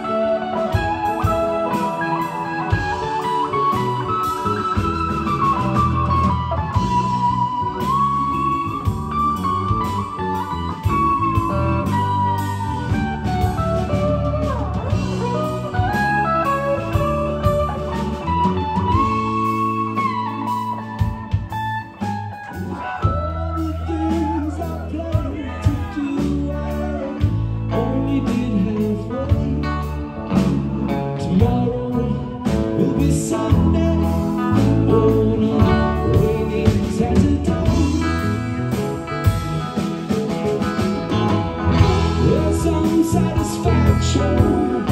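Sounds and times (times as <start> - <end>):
bass guitar: 0.0 - 44.9
drums: 0.0 - 44.9
electric guitar lead: 0.0 - 44.9
electric keyboard: 0.0 - 44.9.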